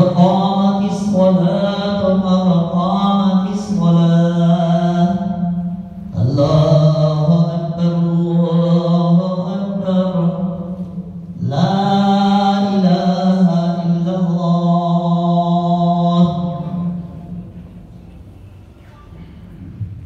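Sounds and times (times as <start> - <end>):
man reciting melodically: 0.0 - 17.4.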